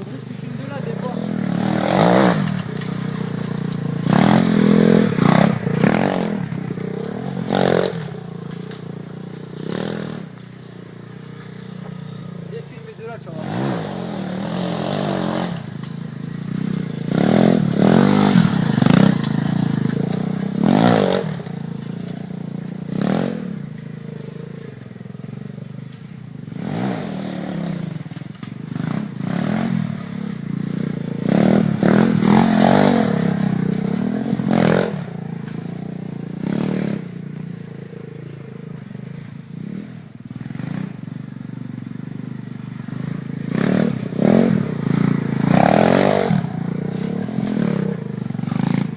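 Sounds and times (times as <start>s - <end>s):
motorbike engine revving: 0.0s - 48.9s.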